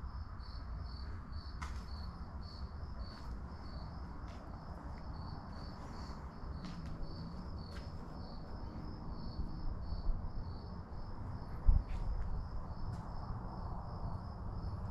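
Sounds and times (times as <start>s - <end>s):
cricket chirping: 0.0s - 14.9s.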